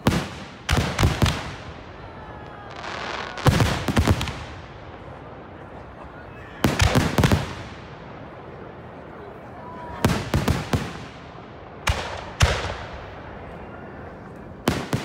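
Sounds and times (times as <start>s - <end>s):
fireworks bursting: 0.0s - 6.0s, 6.6s - 8.7s, 9.9s - 13.6s, 14.6s - 15.0s.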